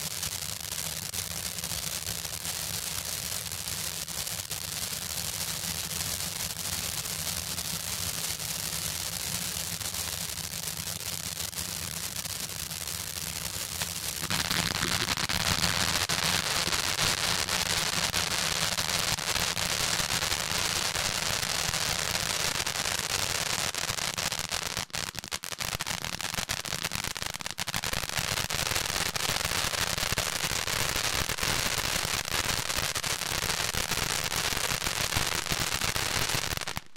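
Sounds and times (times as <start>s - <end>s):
fountain firework crackling spray: 0.0s - 36.9s.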